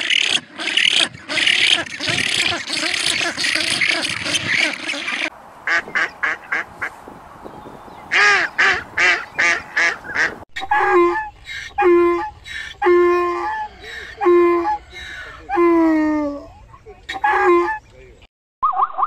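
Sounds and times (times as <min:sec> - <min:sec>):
geese or ducks honking: 0:00.0 - 0:07.0, 0:08.0 - 0:15.8, 0:17.1 - 0:17.9.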